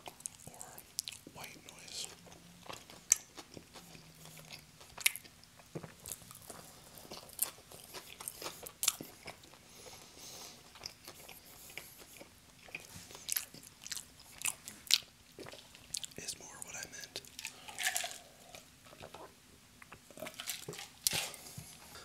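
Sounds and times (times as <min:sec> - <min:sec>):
chewing and biting crust: 0:00.0 - 0:16.2, 0:17.1 - 0:22.0.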